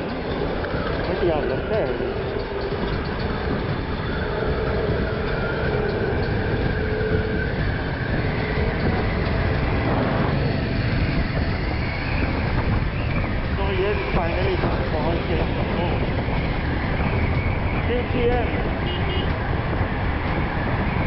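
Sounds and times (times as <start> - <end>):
motorcycle engine running: 0.0 - 21.0
passing traffic: 0.0 - 21.0
wind and road noise: 0.0 - 21.0.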